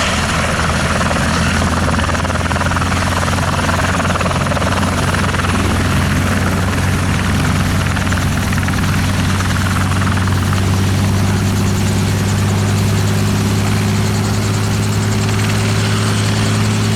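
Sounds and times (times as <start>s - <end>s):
helicopter rotor hum: 0.0s - 16.9s
turbine tone: 0.0s - 16.9s.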